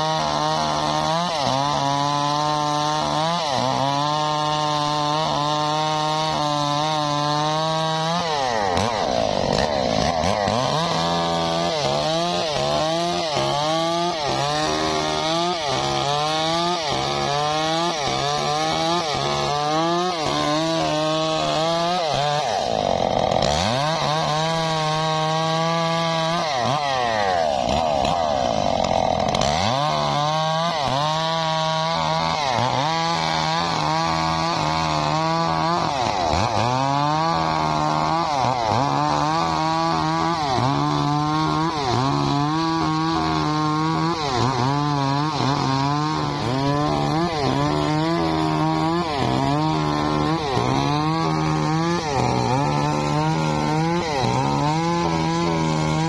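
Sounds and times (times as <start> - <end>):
chainsaw cutting a log: 0.0 - 56.0.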